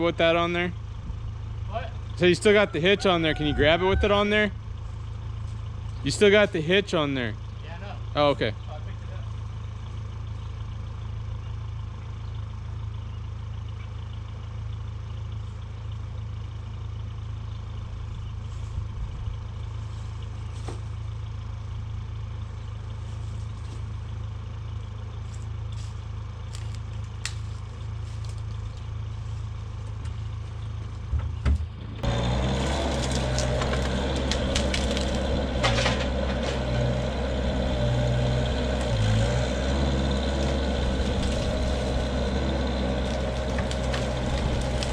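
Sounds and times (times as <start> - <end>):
loader engine running: 0.0 - 44.9.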